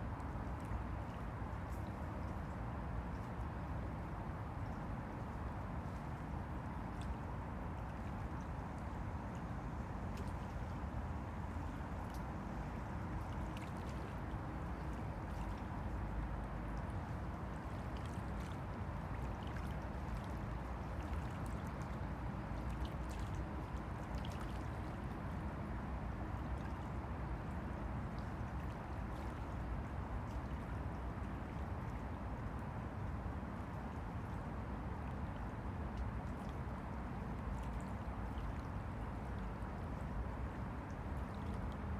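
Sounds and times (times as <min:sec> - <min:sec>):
small waves lapping and splashing: 0:00.0 - 0:41.9.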